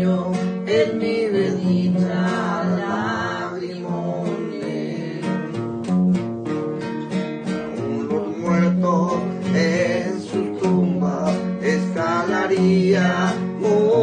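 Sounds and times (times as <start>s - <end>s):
person singing long notes: 0.0s - 5.6s, 7.6s - 14.0s
acoustic guitar strummed and plucked: 0.0s - 14.0s.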